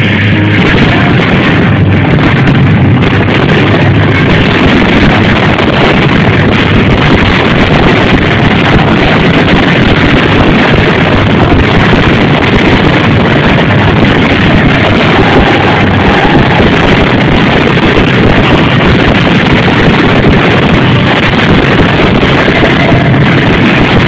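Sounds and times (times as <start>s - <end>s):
fireworks exploding and crackling: 0.0s - 24.0s.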